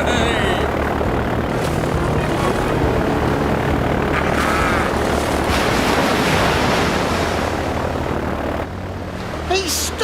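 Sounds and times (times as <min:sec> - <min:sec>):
cartoon propeller engine drone: 0:00.0 - 0:10.0.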